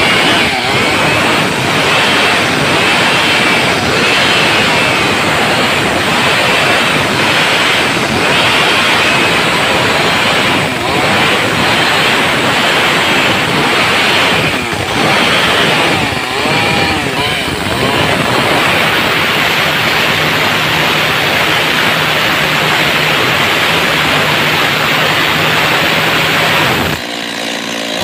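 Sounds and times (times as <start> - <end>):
chainsaw cutting through wood: 0.0 - 28.0.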